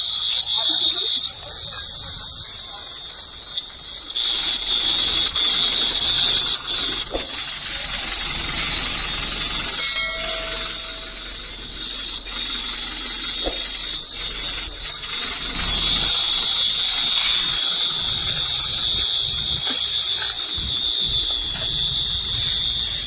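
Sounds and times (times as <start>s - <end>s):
high-pitched alarm tone: 0.0s - 23.0s.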